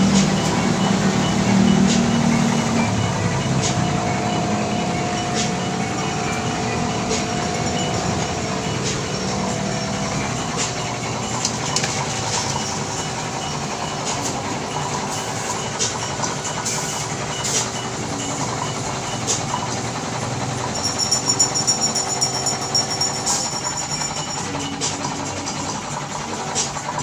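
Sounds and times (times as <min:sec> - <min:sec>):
steady mechanical drone: 0:00.0 - 0:27.0.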